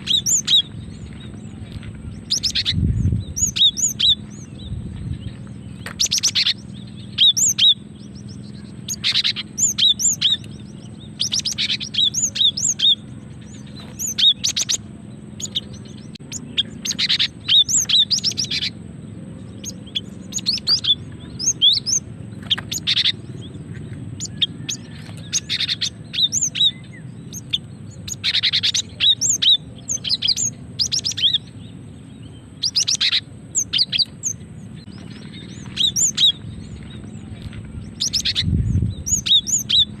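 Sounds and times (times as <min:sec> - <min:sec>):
bird high chirping calls: 0:00.0 - 0:40.0.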